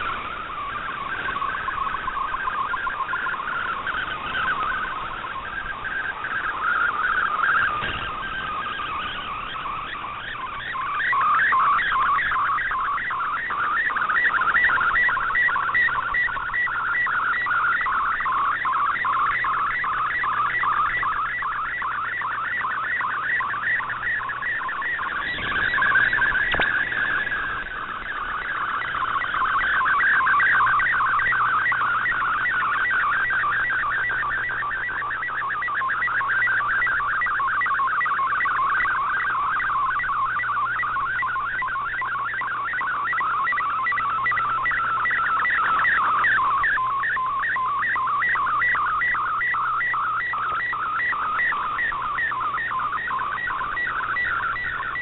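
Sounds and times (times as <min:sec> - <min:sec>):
warbling radio data tone: 0:00.0 - 0:55.0.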